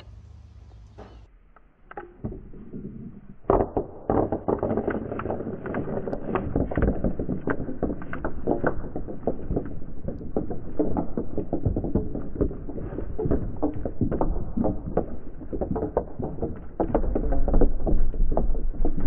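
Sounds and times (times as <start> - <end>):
marbles clicking and knocking: 1.9 - 19.0
marbles rumbling on wooden track: 2.2 - 19.0.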